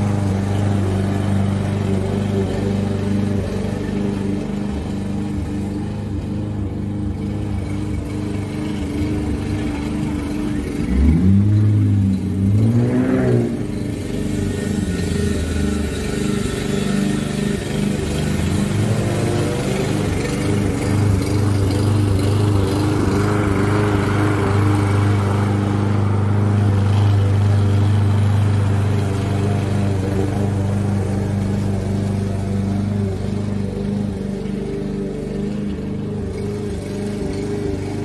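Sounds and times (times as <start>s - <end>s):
lawn mower engine running: 0.0s - 38.0s.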